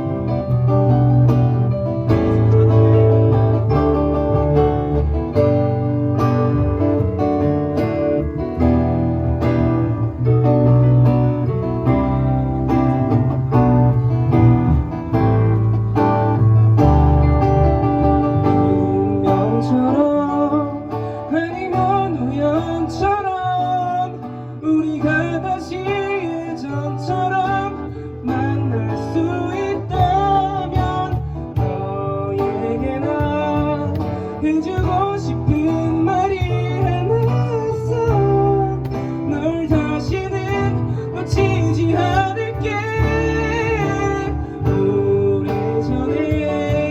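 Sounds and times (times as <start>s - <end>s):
live band playing a ballad: 0.0s - 46.9s.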